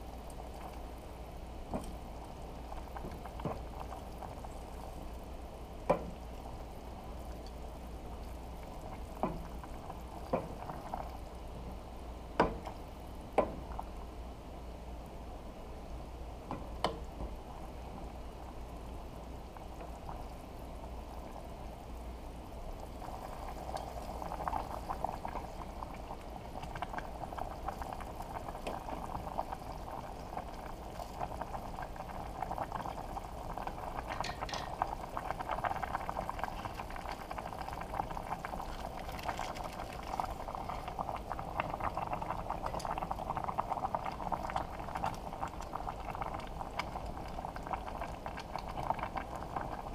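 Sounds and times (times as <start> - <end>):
broth boiling in a pot: 0.0 - 49.9.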